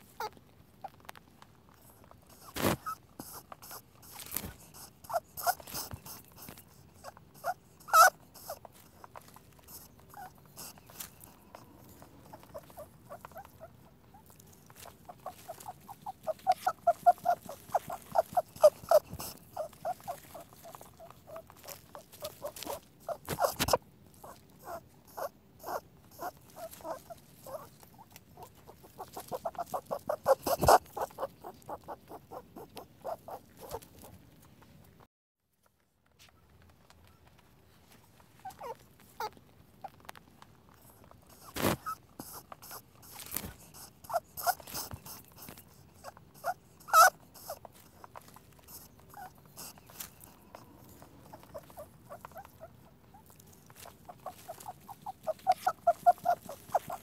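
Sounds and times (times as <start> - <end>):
rabbit squeaking: 0.0 - 34.7, 38.0 - 57.0.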